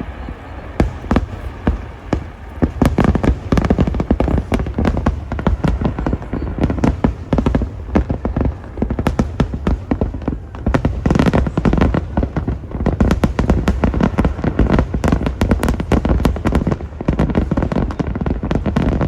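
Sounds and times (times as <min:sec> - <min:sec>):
fireworks bangs and crackles: 0:00.0 - 0:19.0
low rumble of booms: 0:00.0 - 0:19.0.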